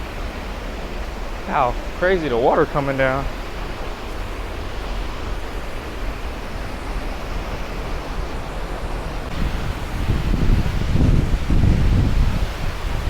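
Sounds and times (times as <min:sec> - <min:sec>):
waterfall rushing: 0:00.0 - 0:13.0
wind rumbling on microphone: 0:00.0 - 0:13.0.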